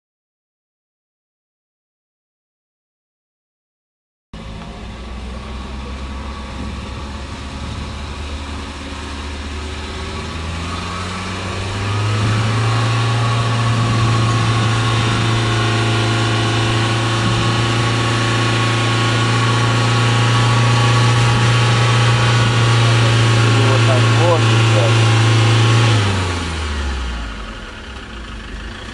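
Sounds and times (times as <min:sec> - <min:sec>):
vehicle engine revving: 0:04.4 - 0:28.9.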